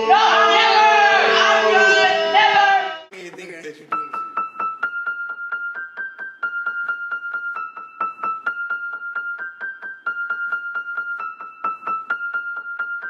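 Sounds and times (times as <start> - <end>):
bell-like keyboard riff: 0.0 - 13.0.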